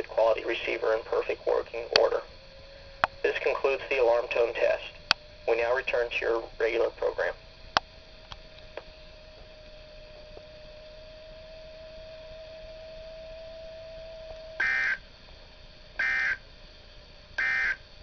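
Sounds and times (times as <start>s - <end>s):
faint steady tone: 0.0s - 18.0s.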